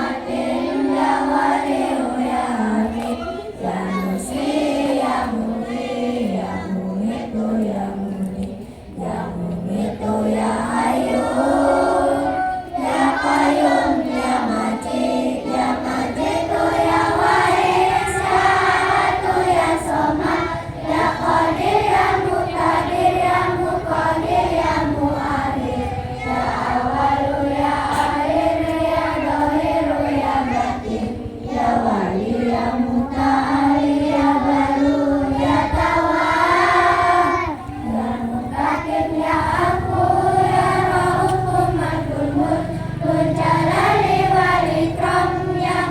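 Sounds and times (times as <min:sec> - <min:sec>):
children singing in unison: 0:00.0 - 0:45.9.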